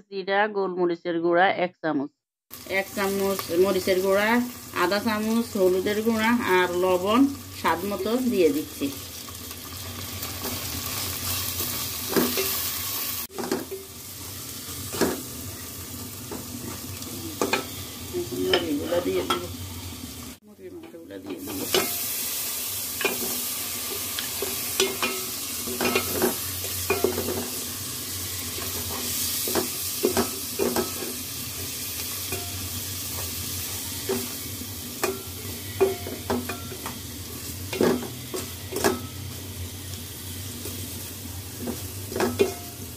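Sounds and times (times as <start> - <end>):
food frying with steady sizzle: 2.5 - 42.9.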